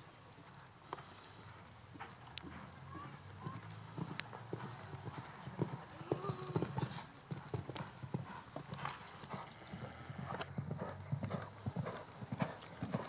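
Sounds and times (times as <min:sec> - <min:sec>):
horse hoofbeats on sand: 0:01.4 - 0:13.0.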